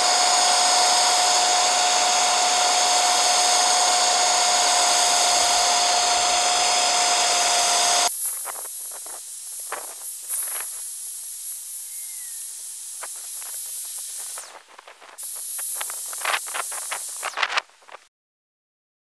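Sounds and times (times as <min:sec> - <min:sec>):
electric paint sprayer hissing: 0:00.0 - 0:17.6.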